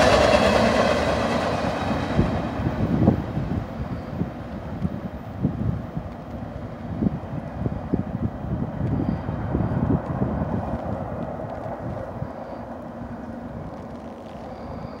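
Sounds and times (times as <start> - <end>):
distant freight train rumble: 0.0 - 15.0
wind buffeting microphone: 0.0 - 15.0.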